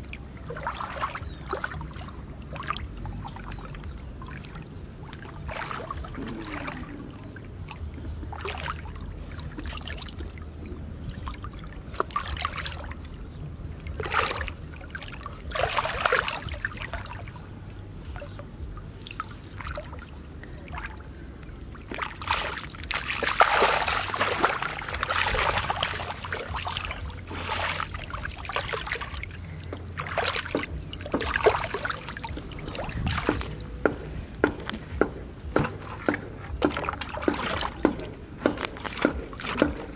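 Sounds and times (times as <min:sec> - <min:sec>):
hands splashing in muddy water: 0:00.4 - 0:10.3, 0:11.2 - 0:13.1, 0:13.9 - 0:17.4, 0:21.6 - 0:39.9.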